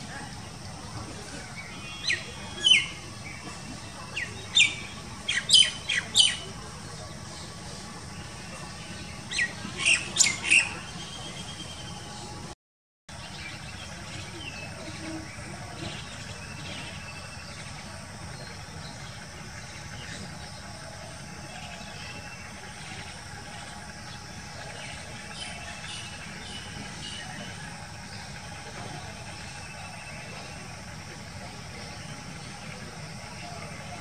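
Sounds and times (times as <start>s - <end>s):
birds chirping: 0.0s - 34.0s
steady background hiss: 0.0s - 34.0s.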